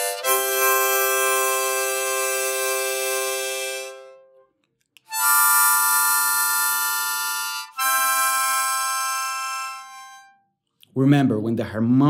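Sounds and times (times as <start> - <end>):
harmonica chords: 0.0 - 10.5.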